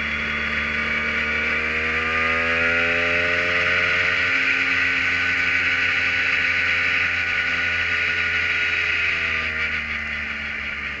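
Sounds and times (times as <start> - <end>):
race car engine running: 0.0 - 11.0
wind and road noise: 0.0 - 11.0.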